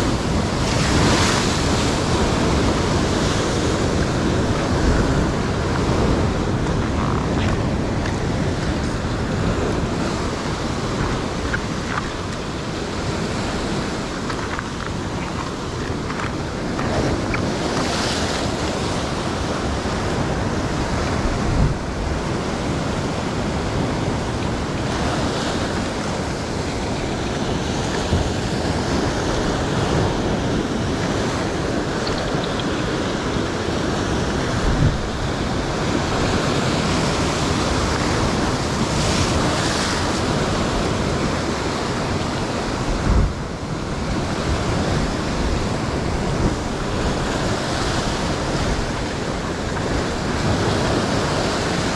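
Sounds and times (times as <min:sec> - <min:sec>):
wind on microphone: 0:00.0 - 0:51.9.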